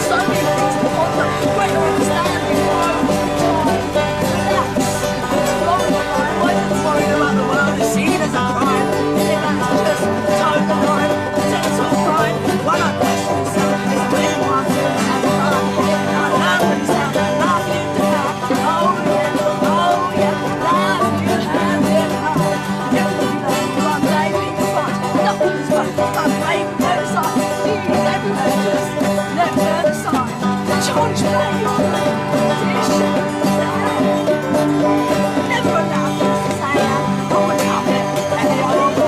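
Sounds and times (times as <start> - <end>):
acoustic band playing: 0.0 - 39.0
banjo picking: 0.0 - 39.0.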